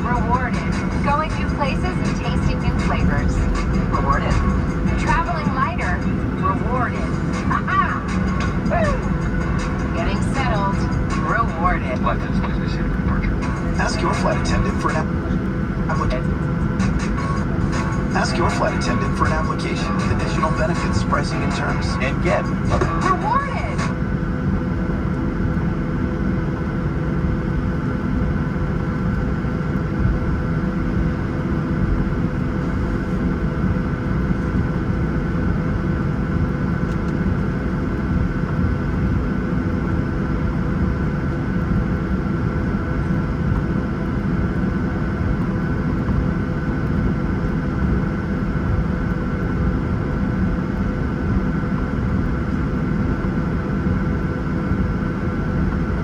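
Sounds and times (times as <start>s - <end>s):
aircraft cabin engine rumble: 0.0s - 56.0s
steady engine whine: 0.0s - 56.0s.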